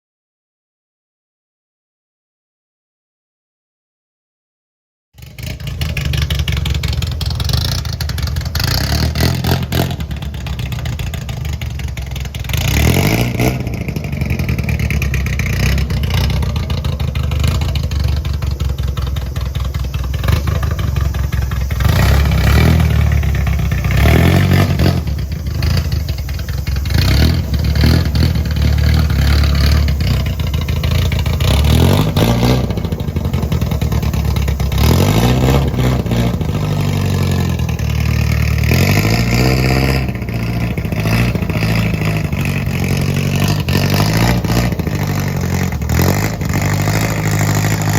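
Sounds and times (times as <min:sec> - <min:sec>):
car engine idling and revving: 0:05.2 - 0:47.9.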